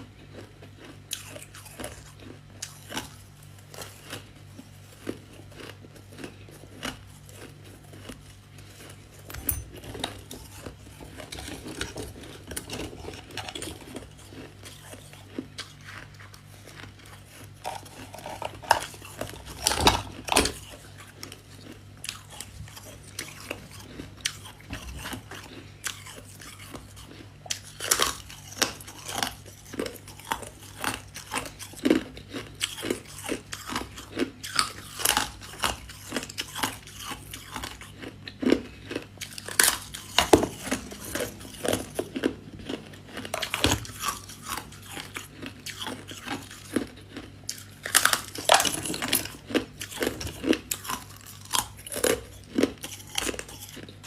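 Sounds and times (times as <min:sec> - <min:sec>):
faint low hum: 0:00.0 - 0:54.0
frost being bitten and chewed: 0:00.0 - 0:54.0.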